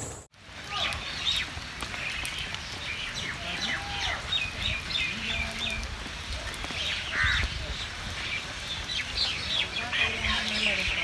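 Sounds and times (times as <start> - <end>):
birds chirping and calling: 0.7 - 11.0.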